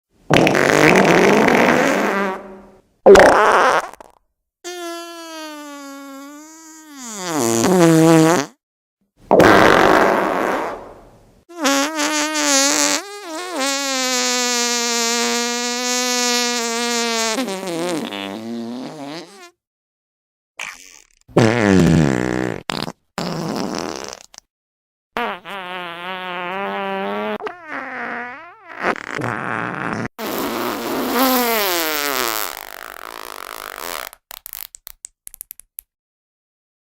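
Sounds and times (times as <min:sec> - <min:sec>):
fart sounds: 0:00.3 - 0:08.6, 0:09.3 - 0:19.6, 0:20.6 - 0:24.5, 0:25.2 - 0:35.5.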